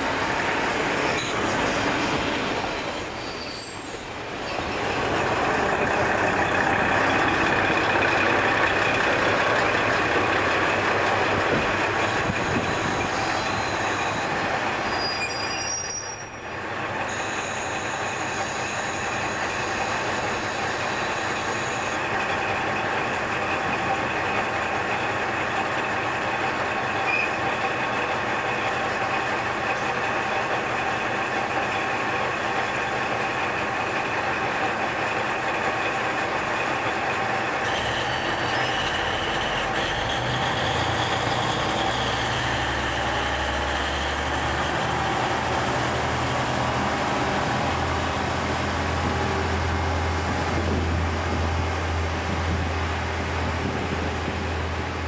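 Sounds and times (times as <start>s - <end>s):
diesel railcar engine running: 0.0s - 55.0s.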